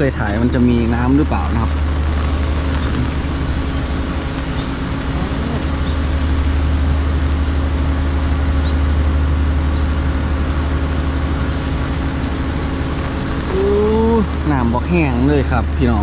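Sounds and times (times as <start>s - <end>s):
generator humming: 0.0s - 16.0s.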